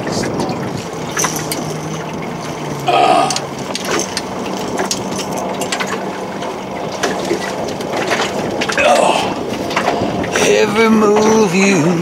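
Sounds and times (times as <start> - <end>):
boat motor humming: 0.0 - 12.0
water noise: 0.0 - 12.0
wind: 0.0 - 12.0.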